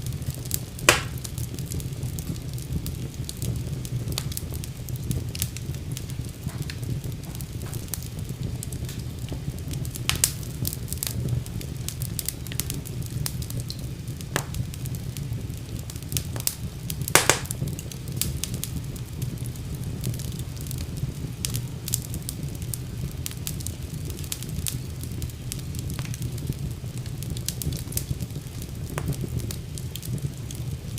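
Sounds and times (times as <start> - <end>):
fire crackling and popping: 0.0 - 30.9
fire flames rumbling: 0.0 - 30.9.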